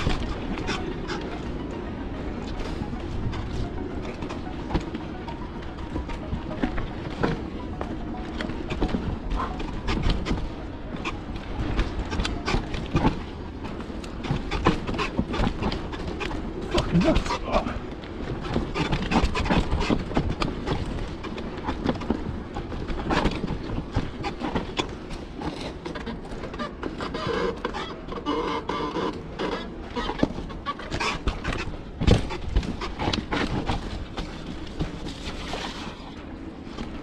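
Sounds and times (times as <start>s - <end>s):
bike rattling and knocking: 0.0s - 1.4s, 5.7s - 36.0s.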